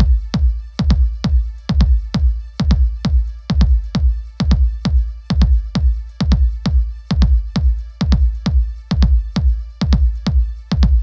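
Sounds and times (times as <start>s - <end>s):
fast beat music with heavy bass: 0.0s - 11.0s.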